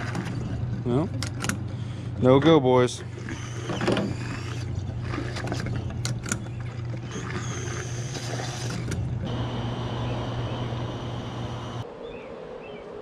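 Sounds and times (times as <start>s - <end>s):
low hum of running machinery: 0.0s - 11.9s.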